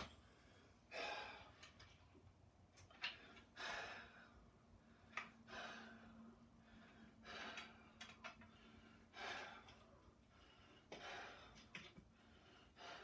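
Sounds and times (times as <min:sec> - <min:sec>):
man breathing: 0:00.1 - 0:01.8, 0:03.0 - 0:13.0.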